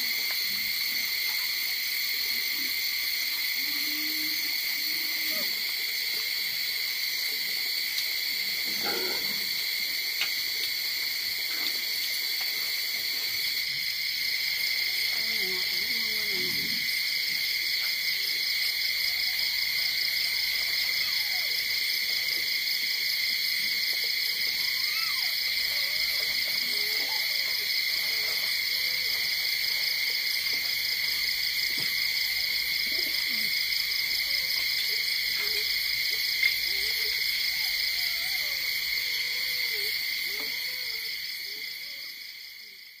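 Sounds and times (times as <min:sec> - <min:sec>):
night insects chorus: 0:00.0 - 0:43.0.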